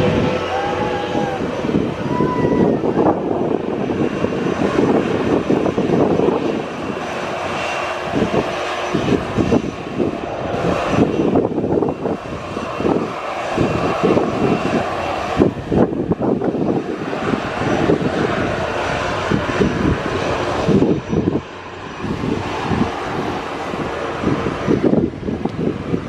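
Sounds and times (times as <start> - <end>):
jet engine high whine: 0.0 - 26.0
jet engines rumbling: 0.0 - 26.0.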